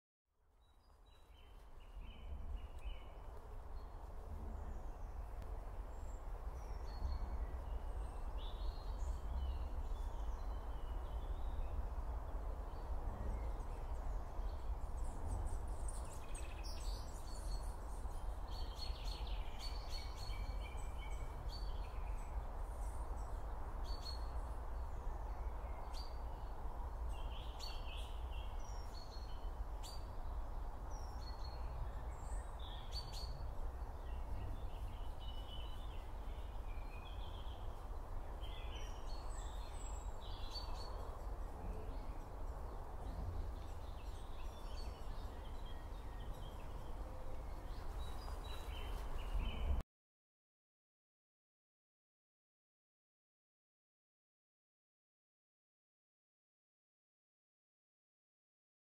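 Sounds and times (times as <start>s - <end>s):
songbirds chirping: 0.4s - 49.8s.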